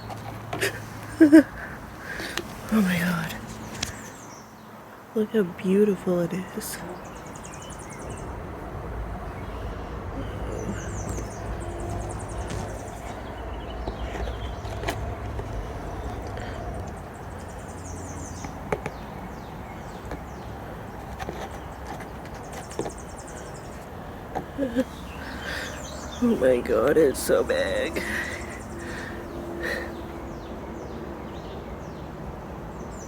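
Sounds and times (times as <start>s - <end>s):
passing vehicle rumble: 0.0s - 33.0s.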